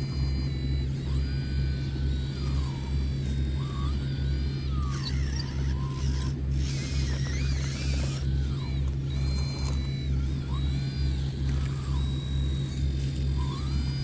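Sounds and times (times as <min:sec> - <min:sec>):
electric motors whining: 0:00.0 - 0:14.0
pulsing low hum: 0:00.0 - 0:14.0.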